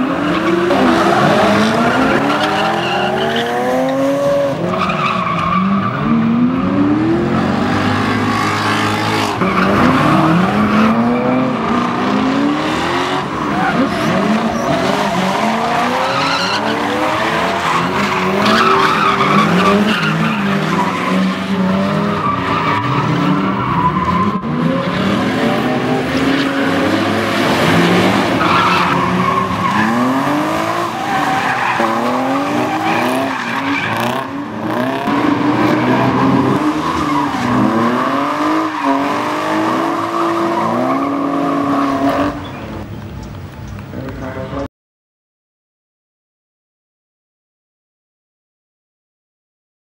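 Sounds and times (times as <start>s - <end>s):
car engines revving: 0.0s - 44.7s.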